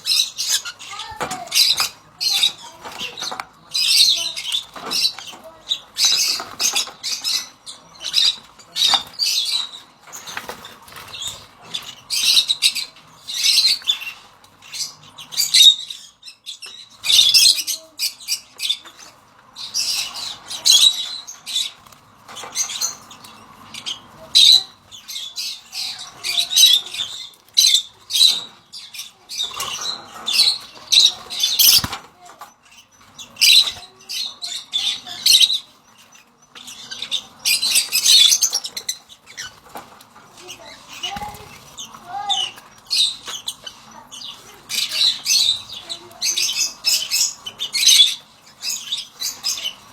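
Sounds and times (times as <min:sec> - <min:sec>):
lovebirds chirping and squawking: 0:00.0 - 0:49.9.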